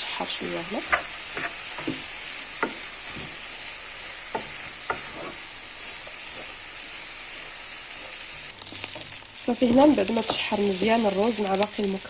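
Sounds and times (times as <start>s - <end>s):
rice sizzling in hot oil: 0.0s - 12.0s.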